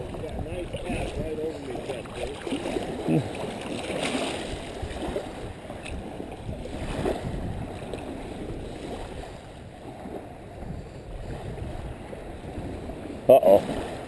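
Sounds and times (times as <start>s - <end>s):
water sloshing at shoreline: 0.0s - 14.0s
wind buffeting microphone: 0.0s - 14.0s.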